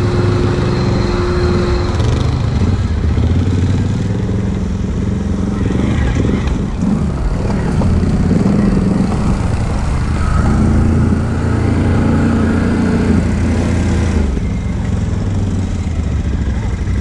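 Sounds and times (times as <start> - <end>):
atv engines running: 0.0 - 17.0.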